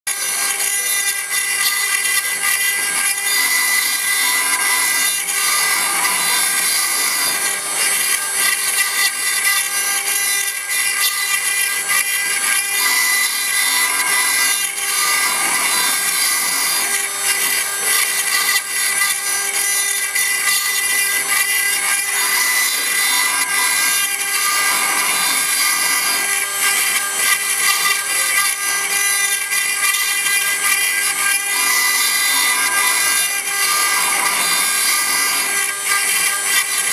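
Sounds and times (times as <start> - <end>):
router spindle cutting stone: 0.1 - 36.9.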